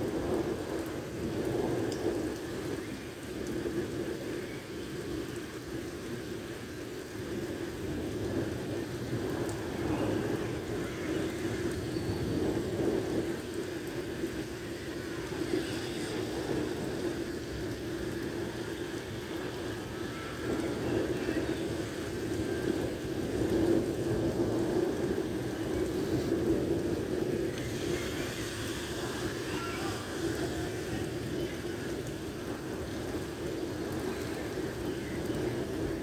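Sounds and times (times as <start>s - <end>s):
heavy rain on street: 0.0s - 36.0s.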